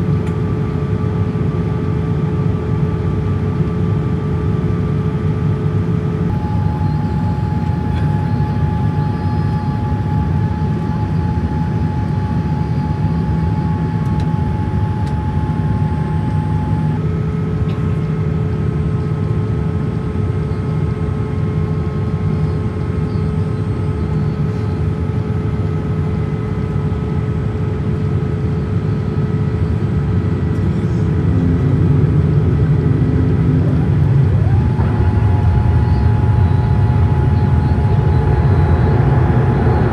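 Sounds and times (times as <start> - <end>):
jet engines in cabin: 0.0 - 39.9.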